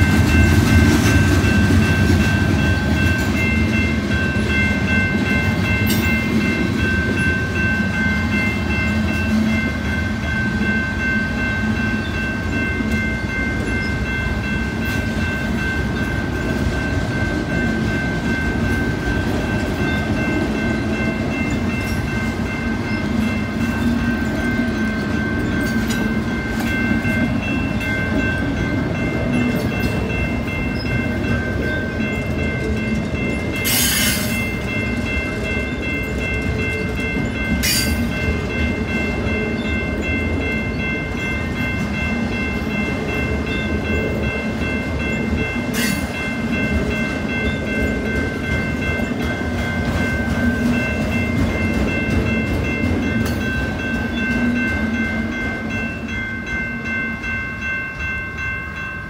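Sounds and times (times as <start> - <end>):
high-pitched ringing tones: 0.0 - 59.0
low rumble of freight cars: 0.0 - 59.0.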